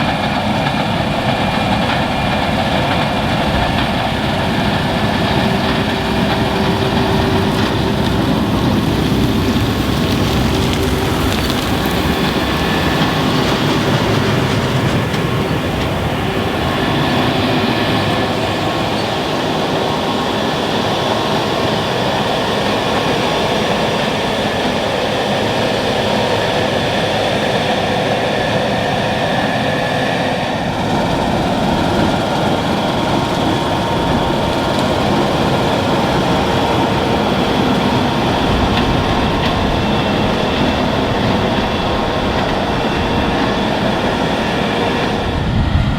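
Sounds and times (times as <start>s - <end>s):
combine harvester rumbling: 0.0s - 45.9s.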